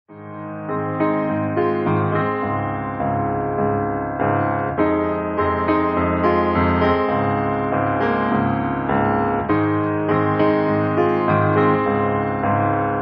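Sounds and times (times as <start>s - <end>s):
piano music: 0.1s - 13.0s.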